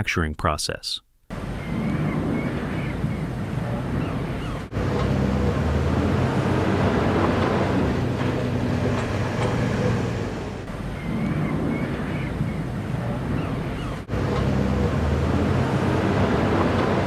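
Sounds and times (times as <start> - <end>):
diesel truck engine droning: 1.3 - 17.0.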